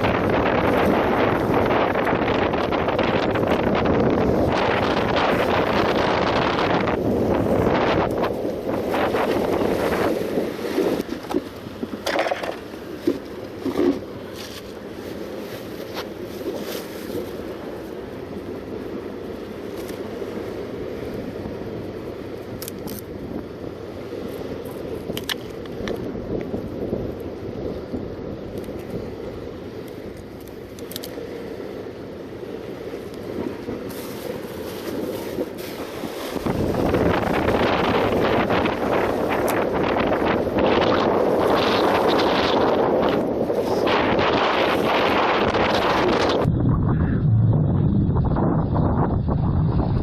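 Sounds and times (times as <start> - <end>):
sea washing against rocks: 0.0 - 46.5
wind buffeting microphone: 0.0 - 50.0.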